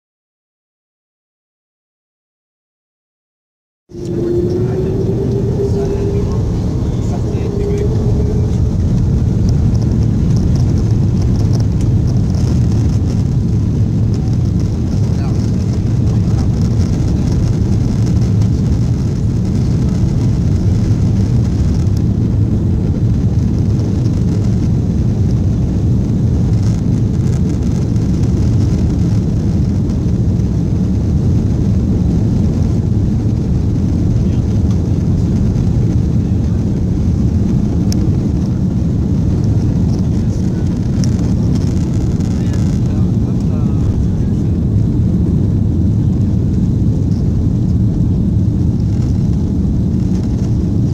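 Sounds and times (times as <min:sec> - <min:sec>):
airplane cabin engine rumble: 0:03.9 - 0:50.9
wheel noise on runway: 0:03.9 - 0:50.9.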